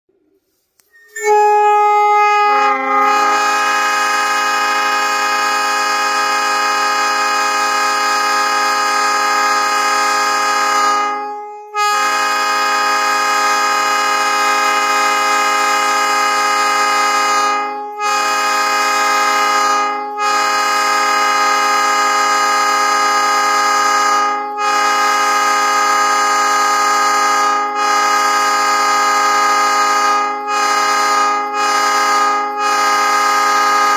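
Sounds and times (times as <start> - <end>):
three-chime train horn blasts: 0.8 - 33.9.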